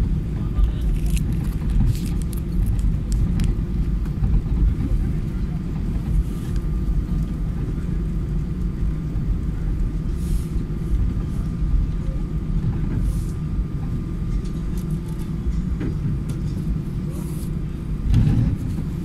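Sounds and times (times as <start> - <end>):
jet airliner cabin rumble: 0.0 - 19.0.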